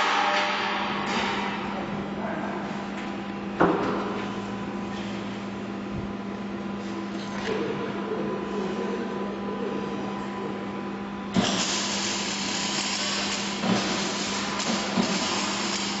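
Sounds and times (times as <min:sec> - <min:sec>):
machinery electric hum: 0:00.0 - 0:16.0.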